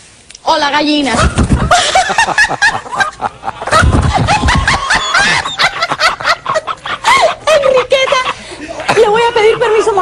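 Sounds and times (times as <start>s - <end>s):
man and woman laughing: 1.2s - 10.0s.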